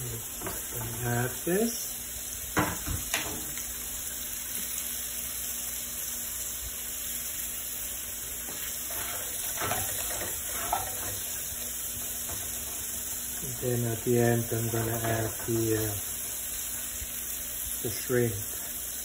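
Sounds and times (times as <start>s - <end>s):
fish sizzling in frying pan: 0.0s - 19.0s.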